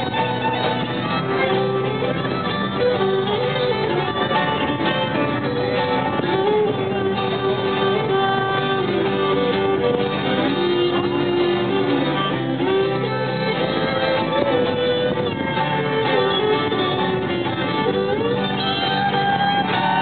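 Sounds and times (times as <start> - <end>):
acoustic guitars: 0.0 - 20.0
fiddle playing lively tune: 0.0 - 20.0.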